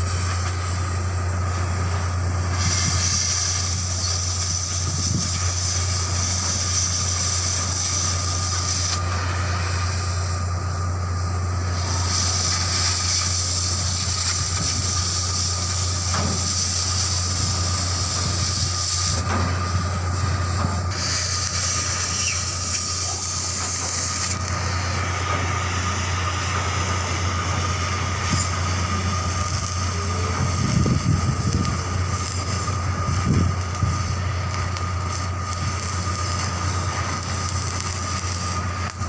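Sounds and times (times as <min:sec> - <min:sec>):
machinery hum: 0:00.0 - 0:39.0
welding arc hiss: 0:00.0 - 0:39.0.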